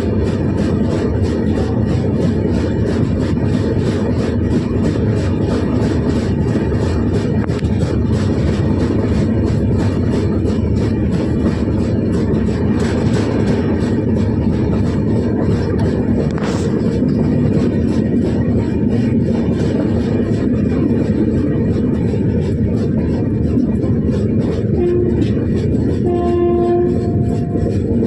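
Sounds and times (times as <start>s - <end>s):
train rumbling on track: 0.0s - 28.0s
wheels clattering on rails: 0.0s - 28.0s.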